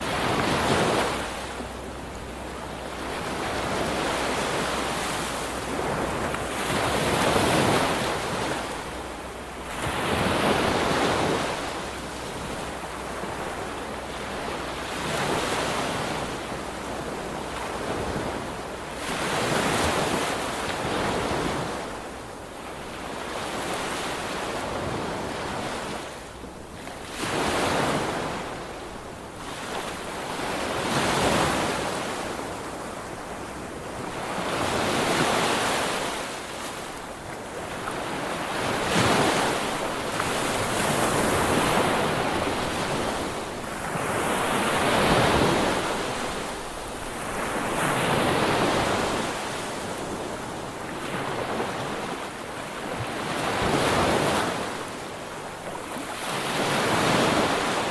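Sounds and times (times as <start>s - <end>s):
sea waves breaking on shore: 0.0s - 57.9s.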